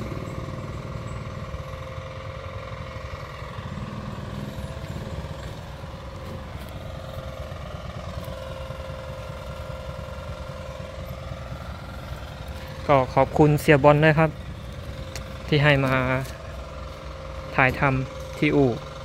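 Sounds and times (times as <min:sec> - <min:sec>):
combine harvester engine rumbling: 0:00.0 - 0:19.0.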